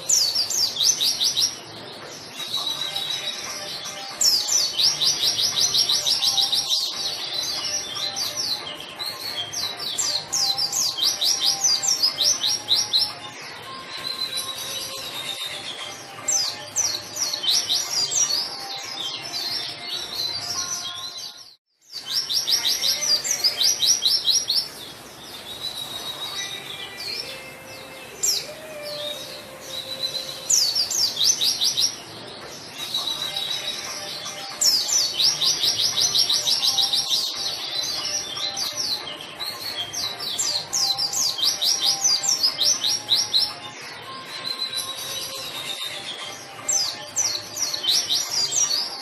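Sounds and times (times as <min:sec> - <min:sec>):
bird singing rapid trills: 0:00.0 - 0:49.0.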